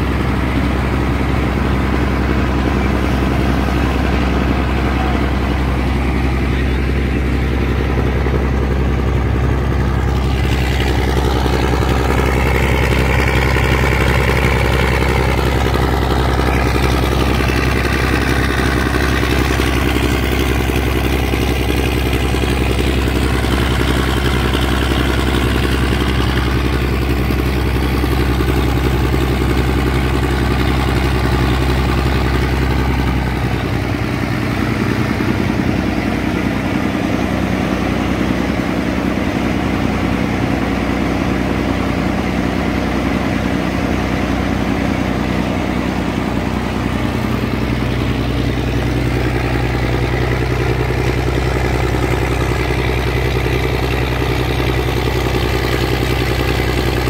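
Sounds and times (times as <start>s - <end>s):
ferry engine humming: 0.0s - 57.0s.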